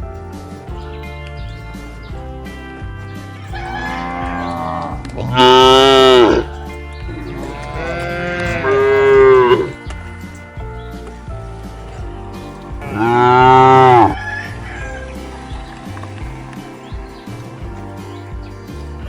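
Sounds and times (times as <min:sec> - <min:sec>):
cattle mooing: 0:03.5 - 0:19.0.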